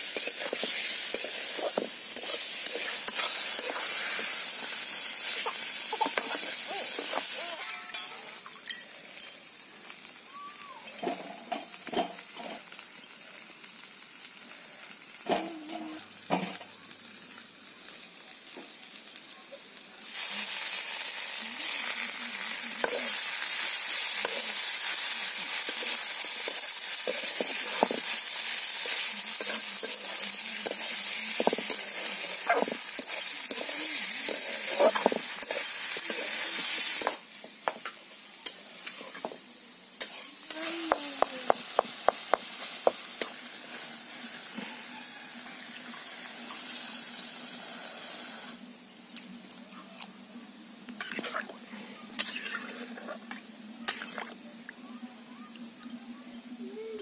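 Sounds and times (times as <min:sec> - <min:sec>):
vegetables sizzling in hot oil: 0:00.0 - 0:49.6, 0:50.4 - 0:54.4.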